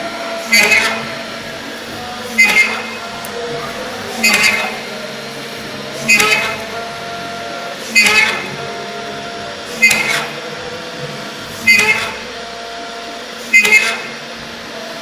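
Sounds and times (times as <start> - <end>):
pitched machine whirring bursts: 0.0 - 15.0
steady machine hum: 0.0 - 15.0.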